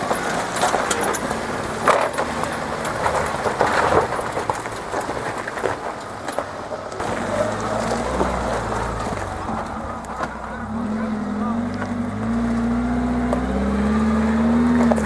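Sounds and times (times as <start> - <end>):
knocks and rattles: 0.0 - 15.0
off-road vehicle engine: 0.0 - 15.0.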